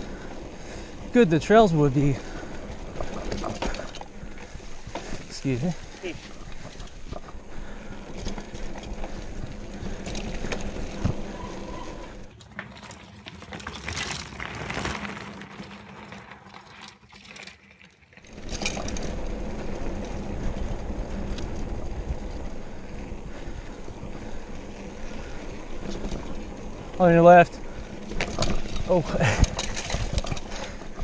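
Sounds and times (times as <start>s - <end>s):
bike chain and frame rattling: 0.0s - 31.0s
bike tyres on dirt: 0.0s - 31.0s.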